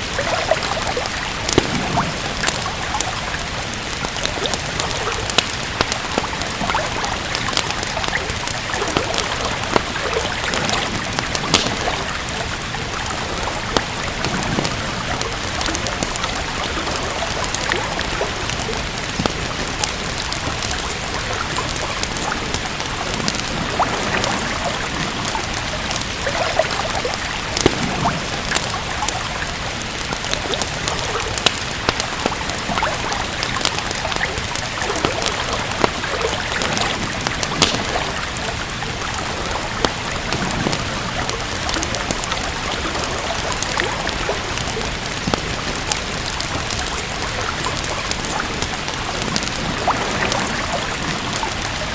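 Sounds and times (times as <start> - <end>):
steady rain falling: 0.0 - 51.9
wood fire crackling: 0.0 - 51.9.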